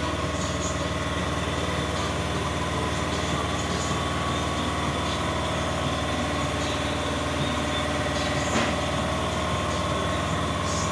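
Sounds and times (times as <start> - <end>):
motor humming: 0.0 - 10.9.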